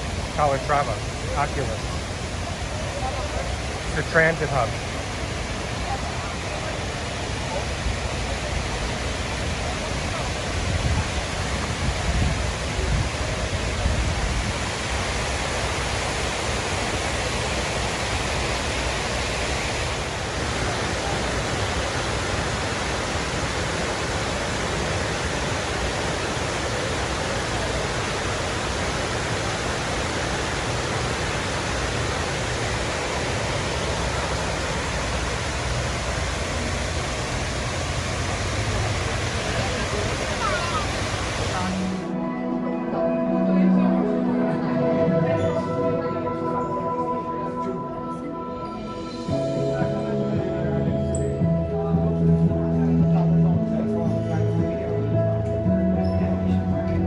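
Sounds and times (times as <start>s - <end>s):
waterfall rushing: 0.0s - 50.7s.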